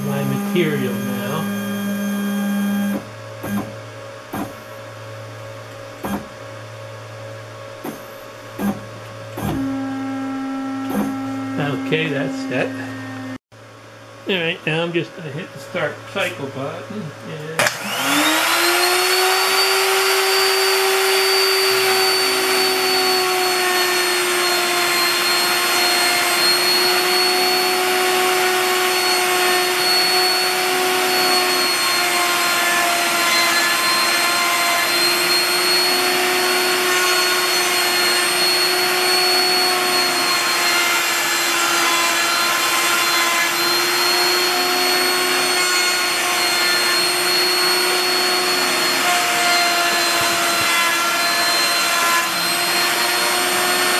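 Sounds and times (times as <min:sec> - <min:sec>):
router motor whining: 0:00.0 - 0:04.7, 0:07.8 - 0:13.4, 0:16.9 - 0:53.9
shop vacuum running: 0:00.0 - 0:53.9.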